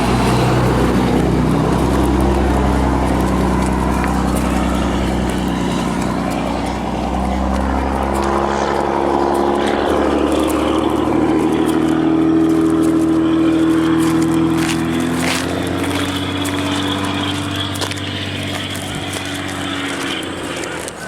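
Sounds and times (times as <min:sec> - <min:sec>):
higher steady engine tone: 0:00.0 - 0:21.0
vehicle engine running: 0:00.0 - 0:21.0.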